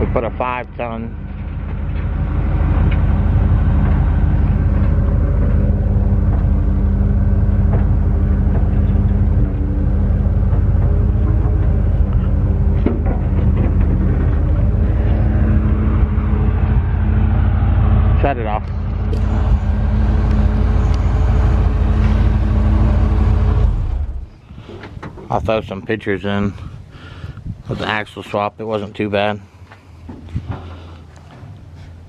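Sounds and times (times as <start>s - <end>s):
truck engine idling: 0.0s - 25.7s.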